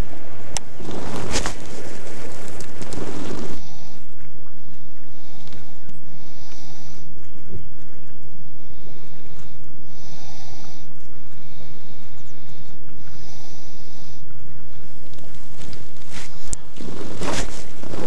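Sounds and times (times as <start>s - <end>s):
steady low rumble: 0.0s - 18.0s
person breathing close: 0.6s - 7.4s, 8.3s - 18.0s.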